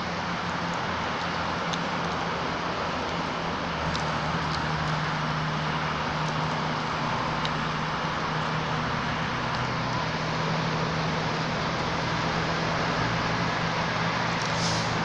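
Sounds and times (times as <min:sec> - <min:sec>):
low engine hum: 0:00.0 - 0:15.0
road traffic noise: 0:00.0 - 0:15.0.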